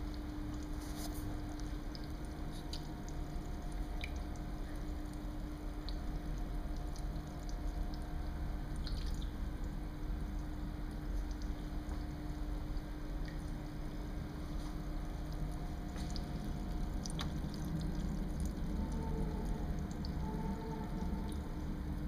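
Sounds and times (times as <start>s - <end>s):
aquarium water trickling: 0.0s - 22.0s
small ticks and splashes: 0.0s - 22.0s
steady hum: 0.0s - 22.0s.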